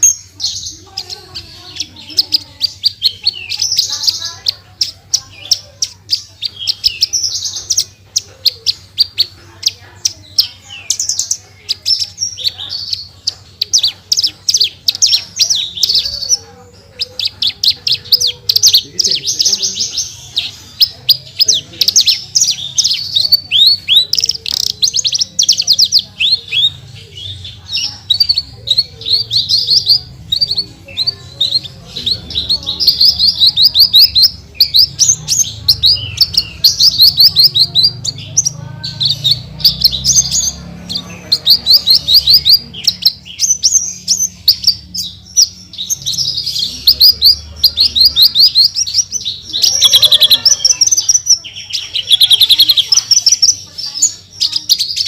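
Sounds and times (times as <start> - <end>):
lark singing rapid chirps and trills: 0.0 - 55.0.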